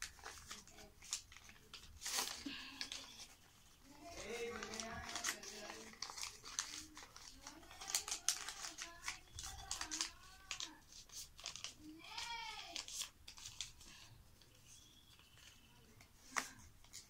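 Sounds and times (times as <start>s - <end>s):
paper rustling and crinkling: 0.0s - 17.0s
sharp paper crackle: 0.0s - 17.0s.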